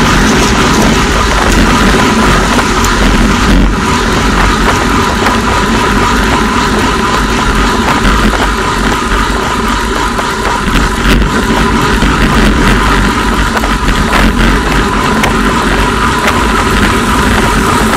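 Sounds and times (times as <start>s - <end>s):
bike tyre noise: 0.0s - 17.9s
heavy low rumble: 0.0s - 17.9s
wind rush: 0.0s - 17.9s.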